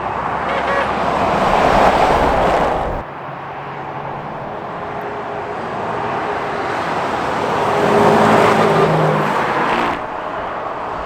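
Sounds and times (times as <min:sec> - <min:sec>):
lorry passing: 0:00.0 - 0:11.0.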